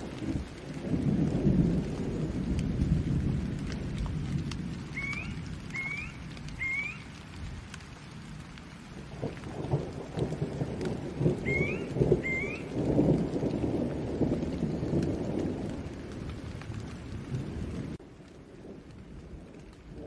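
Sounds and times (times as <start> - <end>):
rolling thunder: 0.0 - 20.0
steady rain: 0.0 - 20.0.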